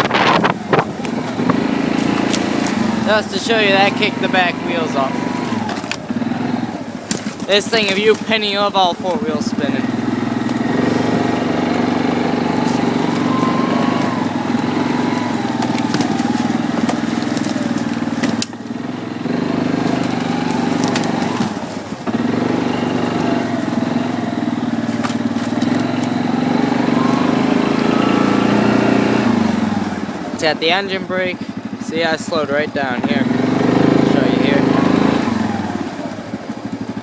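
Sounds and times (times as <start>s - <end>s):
atv engine under throttle: 0.0s - 37.0s.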